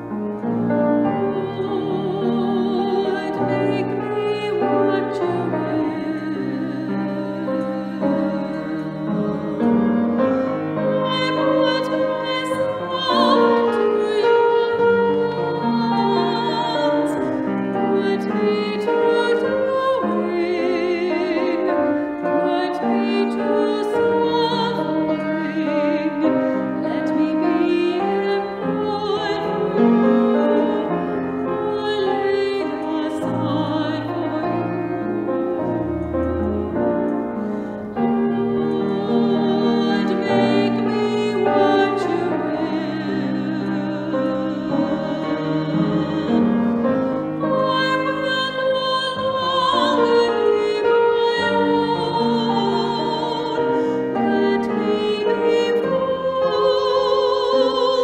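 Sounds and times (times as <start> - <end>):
person singing a hymn: 0.0 - 58.0
piano accompaniment: 0.0 - 58.0.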